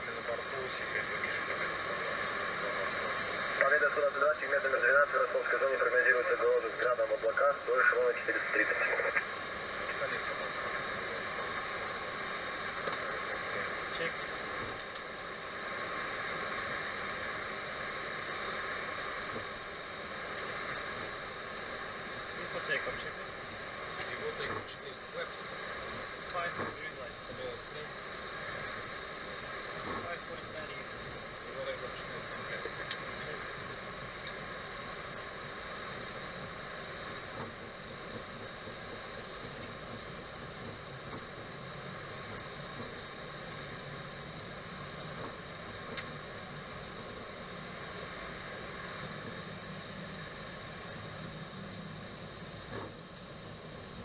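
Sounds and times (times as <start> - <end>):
faint equipment hum: 0.0 - 54.0
steady rushing cockpit noise: 0.0 - 54.0.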